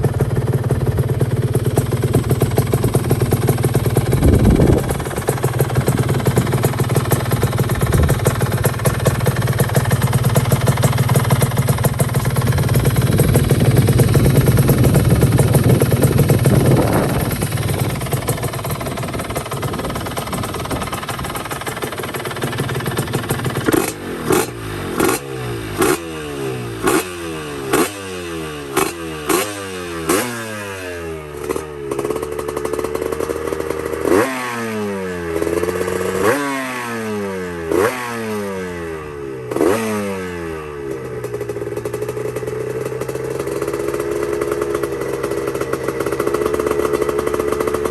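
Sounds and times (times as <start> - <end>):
two-stroke motorcycle engine revving: 0.0 - 47.9.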